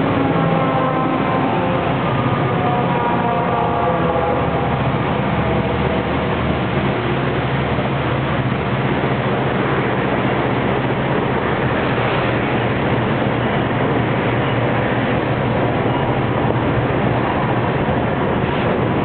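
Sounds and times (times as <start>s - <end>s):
locomotive diesel engines droning: 0.0s - 19.0s
rolling train noise: 0.0s - 19.0s.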